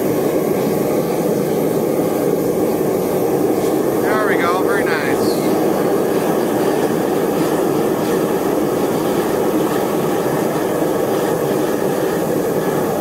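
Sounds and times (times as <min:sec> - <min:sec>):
propane torch rushing: 0:00.0 - 0:13.0.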